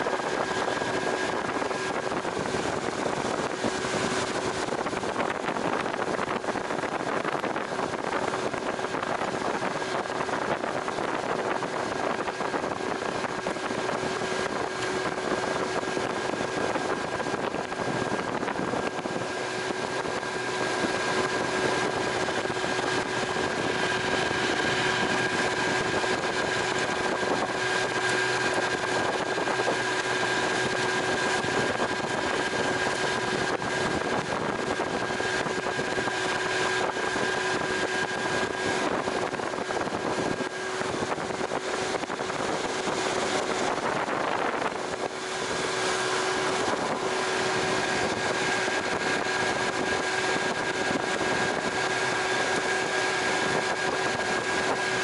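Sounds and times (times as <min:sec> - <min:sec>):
boat motor whining: 0:00.0 - 0:55.0
wind and water rushing: 0:00.0 - 0:55.0.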